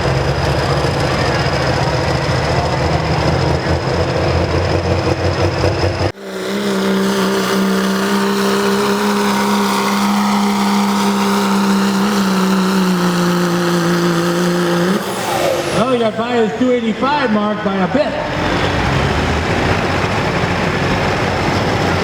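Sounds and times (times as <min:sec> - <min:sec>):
diesel engine running hard: 0:00.0 - 0:22.0
steady engine drone: 0:00.0 - 0:22.0.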